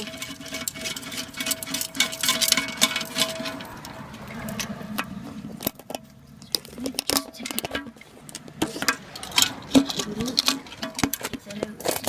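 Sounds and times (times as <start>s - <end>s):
plastic toilet tank parts rattling: 0.0s - 12.0s.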